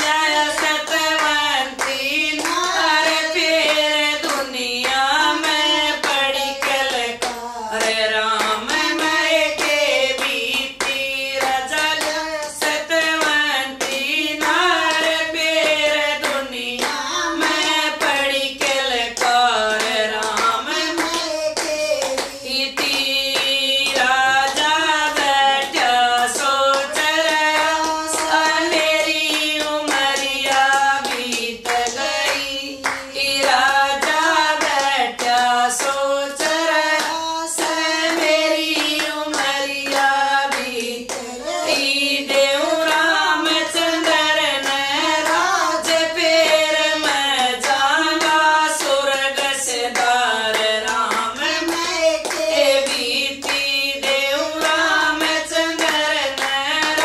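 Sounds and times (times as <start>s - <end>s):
hand clapping: 0.0s - 57.0s
women singing together: 0.0s - 57.0s.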